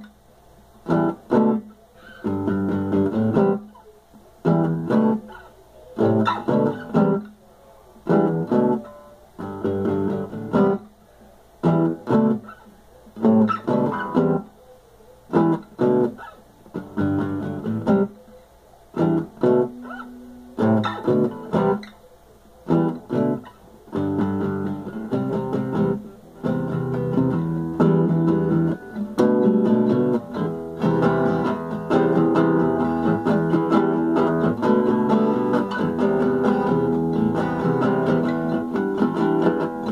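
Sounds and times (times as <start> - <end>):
acoustic guitar strumming: 0.8 - 7.4, 8.0 - 10.9, 11.6 - 14.5, 15.3 - 18.3, 18.9 - 22.0, 22.6 - 39.9.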